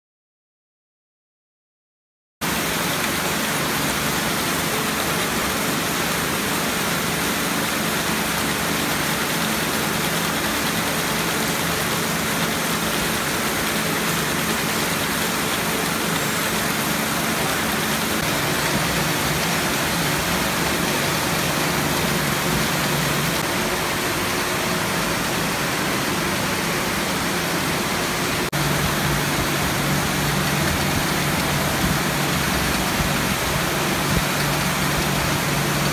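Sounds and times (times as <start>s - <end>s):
packing line machinery noise: 2.8s - 35.9s.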